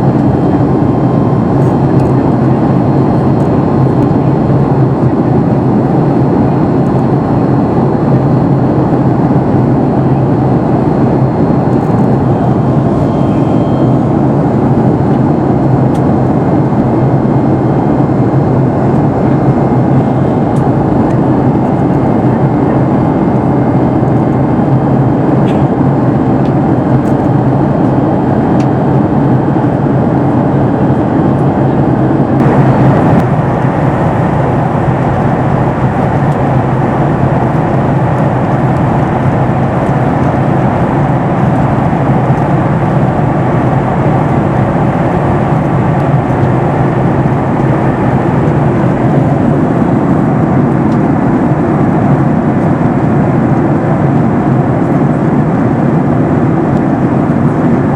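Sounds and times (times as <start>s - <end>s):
airplane cabin engine and airflow noise: 0.0s - 57.9s.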